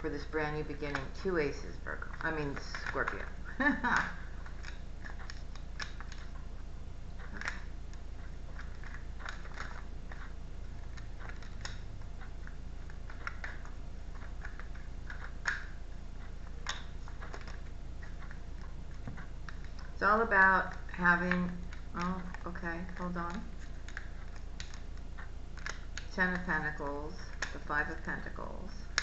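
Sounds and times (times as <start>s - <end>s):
steady low hum: 0.0s - 29.0s
cards being shuffled: 0.2s - 6.5s, 7.2s - 15.8s, 16.5s - 20.0s, 20.6s - 28.1s.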